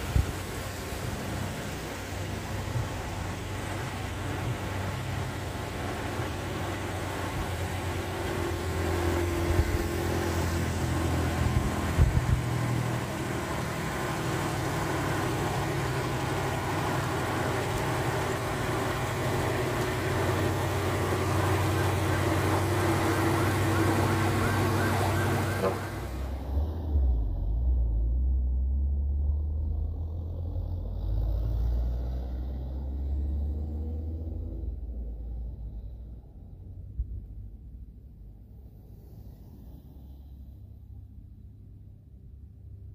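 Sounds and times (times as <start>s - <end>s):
diesel truck engine pulling uphill: 0.0s - 41.8s.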